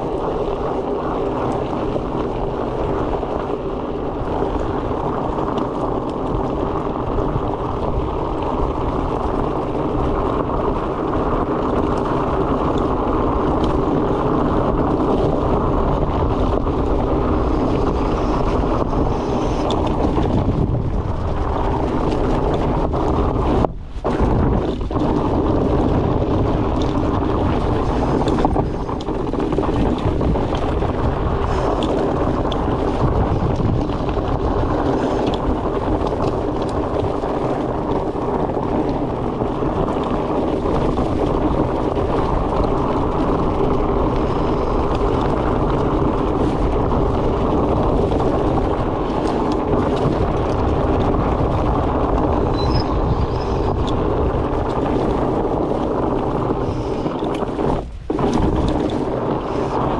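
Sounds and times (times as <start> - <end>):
bike clicks and rattles: 0.0 - 59.9
bike tyres rumbling on trail: 0.0 - 59.9
wind buffeting microphone: 0.0 - 59.9.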